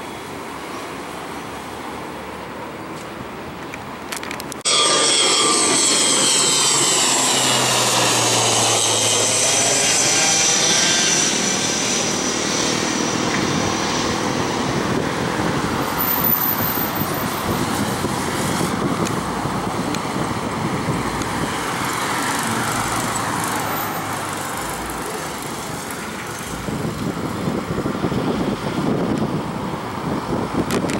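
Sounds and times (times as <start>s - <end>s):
turboprop airliner engine and propellers: 0.0s - 30.9s.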